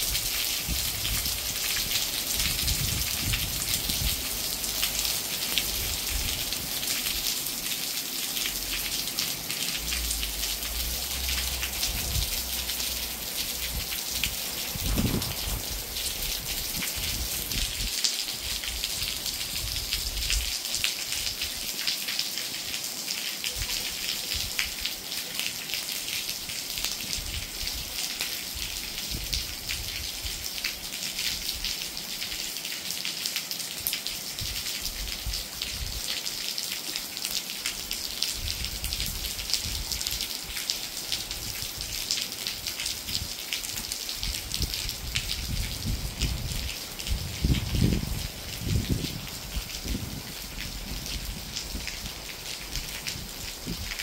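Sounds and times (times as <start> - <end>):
steady rain with patter of drops: 0.0 - 54.0.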